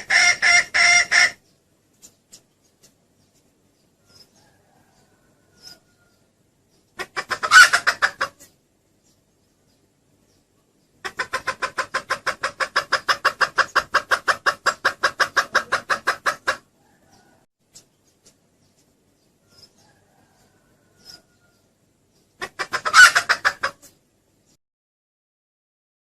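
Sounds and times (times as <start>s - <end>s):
hen clucking: 0.0s - 9.2s, 10.7s - 24.1s.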